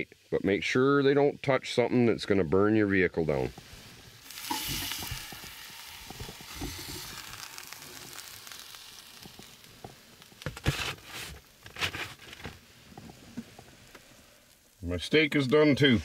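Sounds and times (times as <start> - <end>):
steak sizzling on hot rocks: 0.2 - 16.0.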